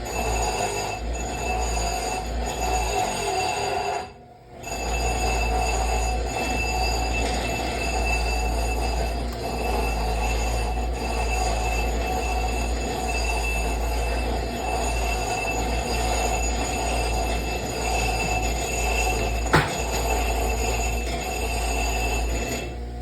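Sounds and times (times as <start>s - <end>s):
grinder squealing on metal: 0.0s - 23.0s
low motor hum: 4.2s - 23.0s.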